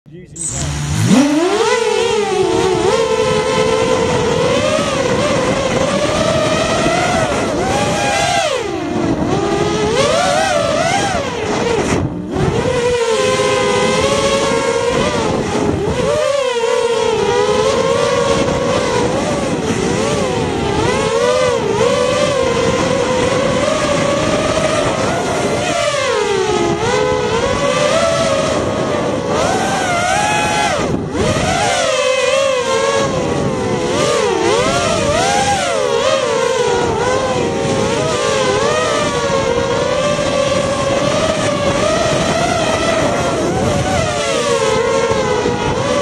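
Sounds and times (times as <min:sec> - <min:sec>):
drone motors whining: 0:00.1 - 0:46.0.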